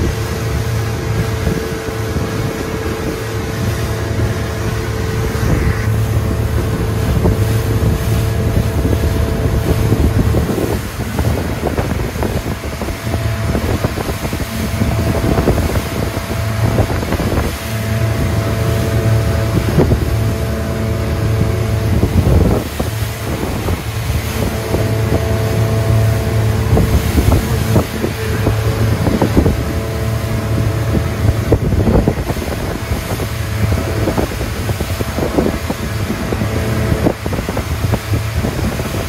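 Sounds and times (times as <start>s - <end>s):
hull slapping waves: 0.0s - 39.0s
motorboat engine drone: 0.0s - 39.0s
water spray splashing: 0.0s - 39.0s
wind buffeting microphone: 0.0s - 39.0s.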